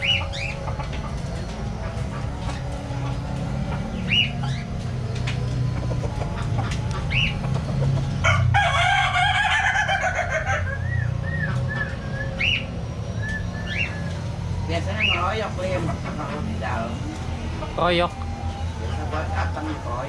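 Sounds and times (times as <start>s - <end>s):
birds chirping and calling: 0.0s - 20.0s
low steady hum: 0.0s - 20.0s.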